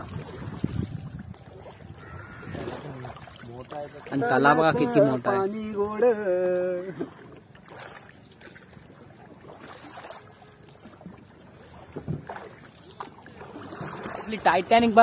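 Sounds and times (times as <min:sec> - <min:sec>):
water splashing and lapping: 0:00.0 - 0:15.0.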